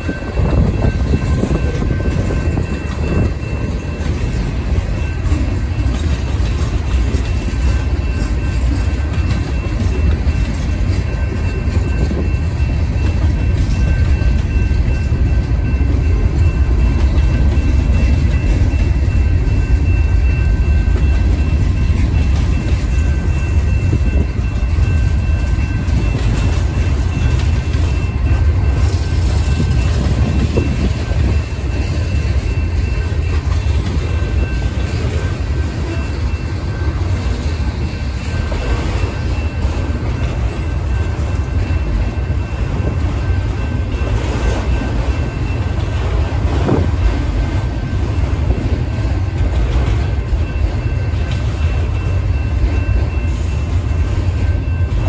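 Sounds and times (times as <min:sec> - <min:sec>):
steel wheels rumbling on rail: 0:00.0 - 0:55.0
train clatter: 0:00.0 - 0:55.0.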